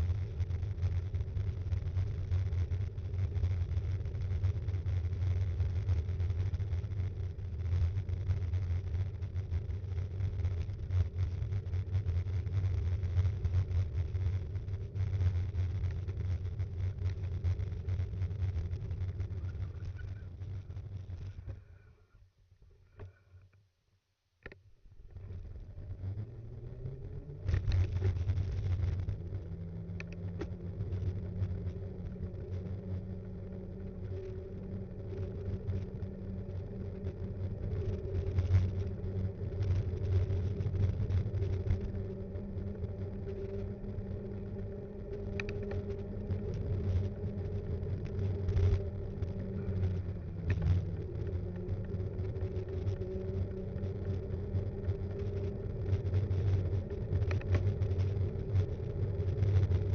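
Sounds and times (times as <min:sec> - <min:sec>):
bike tyres rumbling on road: 0:00.0 - 0:22.0, 0:24.9 - 0:59.9.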